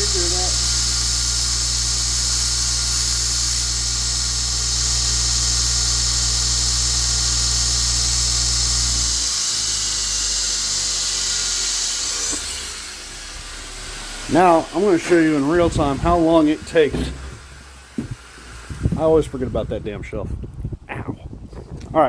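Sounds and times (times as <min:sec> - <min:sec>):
electric grinder running: 0:00.0 - 0:19.1
propane forge roaring: 0:00.0 - 0:20.8.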